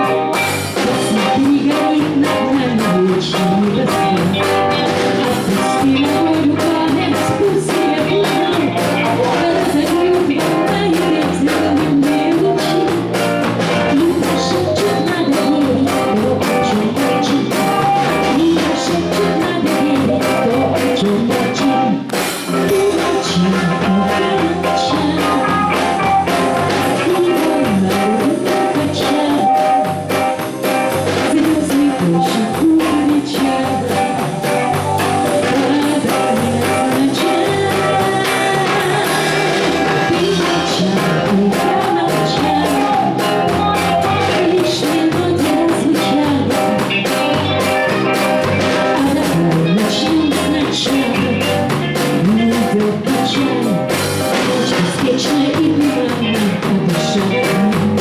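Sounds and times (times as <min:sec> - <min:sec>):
drum kit beat: 0:00.0 - 0:58.0
electric guitar: 0:00.0 - 0:58.0
woman singing: 0:00.0 - 0:58.0.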